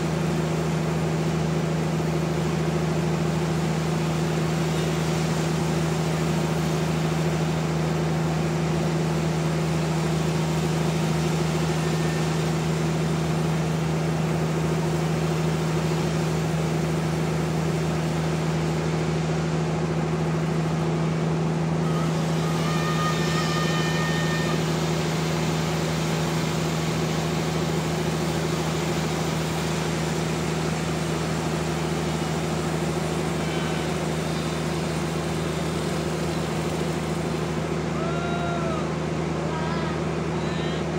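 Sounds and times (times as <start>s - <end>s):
sawmill engine drone: 0.0s - 40.9s.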